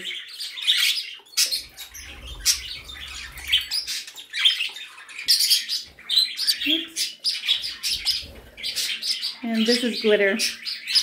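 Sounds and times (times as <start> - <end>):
pet birds chirping and squawking: 0.0 - 11.0.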